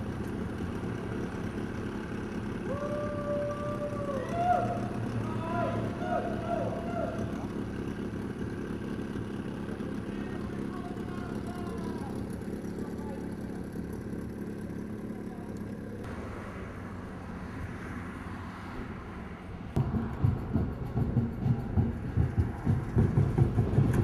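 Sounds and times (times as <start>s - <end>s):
distant voices: 0.0s - 24.0s.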